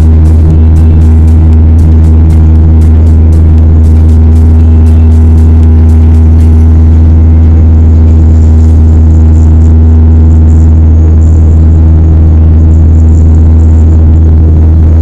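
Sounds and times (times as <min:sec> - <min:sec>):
high steady hum tones: 0:00.0 - 0:15.0
propeller engines droning: 0:00.0 - 0:15.0.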